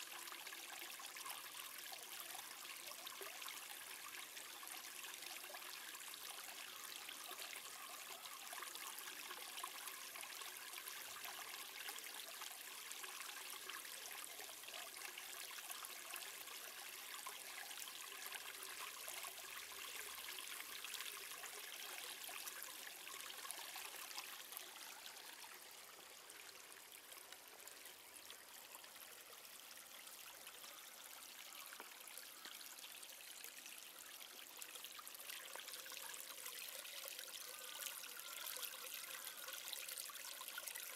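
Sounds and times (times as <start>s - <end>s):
faint outdoor background hiss: 0.0s - 40.9s.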